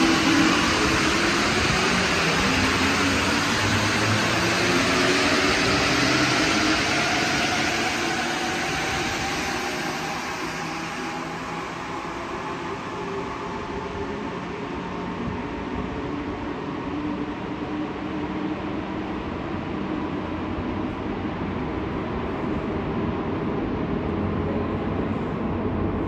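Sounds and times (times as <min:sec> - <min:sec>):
rumble of train wheels: 0:00.0 - 0:26.0.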